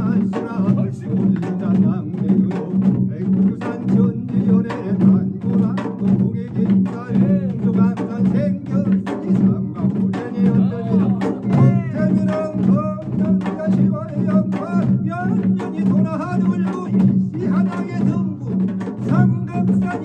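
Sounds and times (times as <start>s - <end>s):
drums beating a steady rhythm: 0.0s - 20.0s
man chanting: 0.0s - 20.0s.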